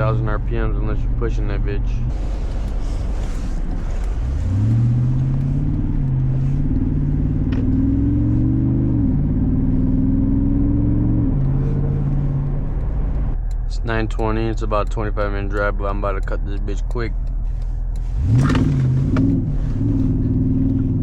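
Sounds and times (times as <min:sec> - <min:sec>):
car engine accelerating: 0:00.0 - 0:21.0
road rumble: 0:00.0 - 0:21.0.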